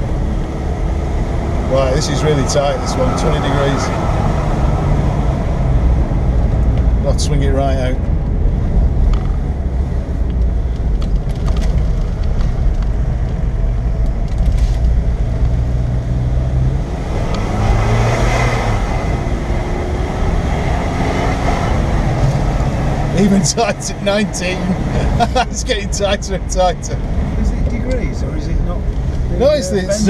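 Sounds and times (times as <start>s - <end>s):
car engine from inside cabin: 0.0s - 30.0s.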